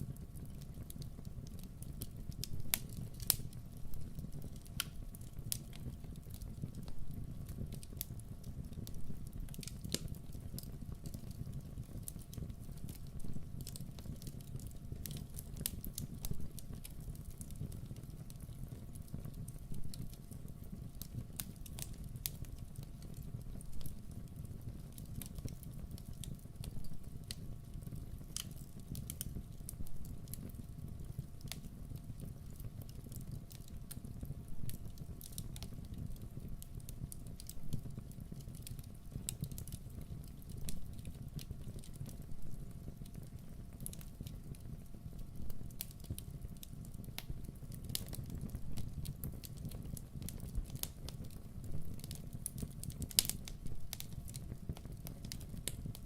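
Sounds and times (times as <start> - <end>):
low rumble of flames: 0.0 - 56.0
wood crackling and popping: 0.0 - 56.0.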